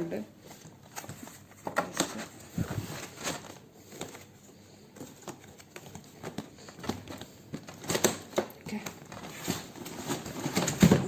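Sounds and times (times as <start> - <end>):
rustling: 0.4 - 11.0.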